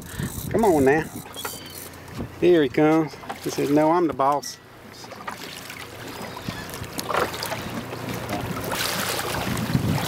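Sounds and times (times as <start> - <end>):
boat engine idling hum: 0.0 - 10.0.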